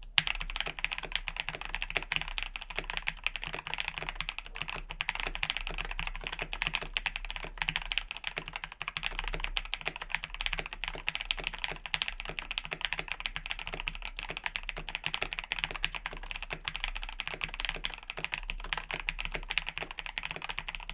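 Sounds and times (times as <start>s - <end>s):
fast mechanical keyboard typing: 0.2s - 20.9s.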